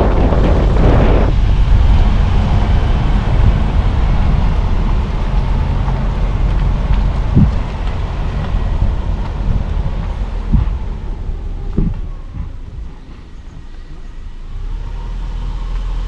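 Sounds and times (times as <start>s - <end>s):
rushing noise: 0.0s - 15.7s
car road and engine rumble: 0.0s - 16.0s.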